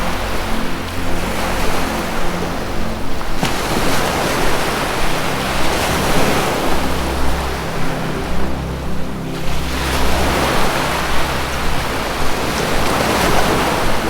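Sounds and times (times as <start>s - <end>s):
low sustained music tones: 0.0s - 14.0s
ocean surf washing: 0.0s - 14.0s.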